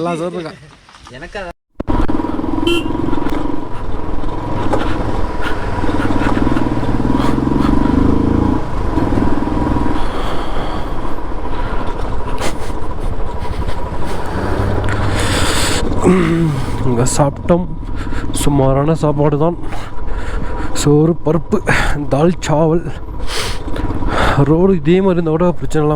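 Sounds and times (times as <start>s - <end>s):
motorcycle engine revving: 1.8s - 25.2s.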